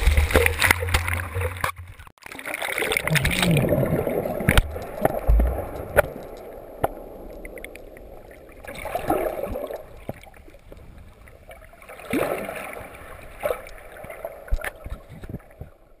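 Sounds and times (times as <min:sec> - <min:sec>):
underwater churning surf: 0:00.0 - 0:15.9.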